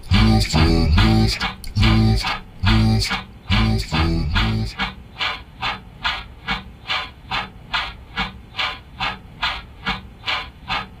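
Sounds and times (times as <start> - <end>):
rhythmic swishing: 0.0 - 11.0.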